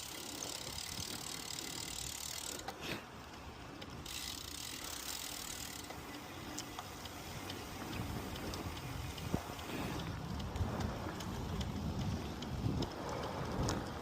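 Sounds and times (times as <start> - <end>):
bicycle freewheel clicking: 0.0 - 14.0
rush of riding noise: 0.0 - 14.0.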